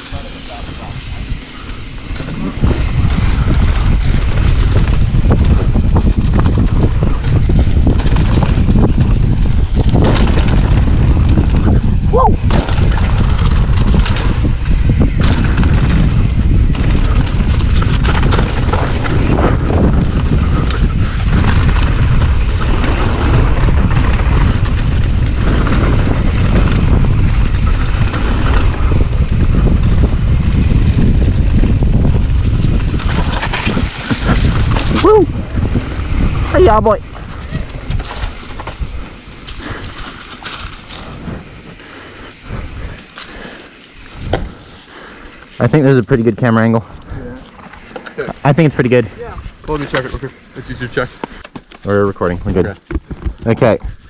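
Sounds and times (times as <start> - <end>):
bike knocking and rattling: 0.0 - 54.0
wind buffeting microphone: 0.0 - 54.0.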